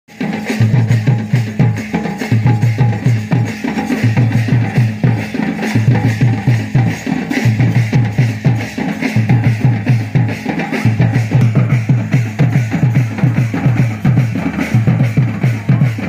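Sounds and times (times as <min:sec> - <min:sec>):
deep drum beats: 0:00.1 - 0:16.0.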